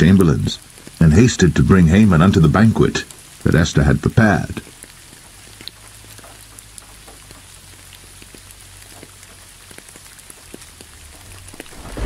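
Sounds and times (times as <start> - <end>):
raindrops ticking close by: 0.0 - 12.0
steady rain: 0.0 - 12.0.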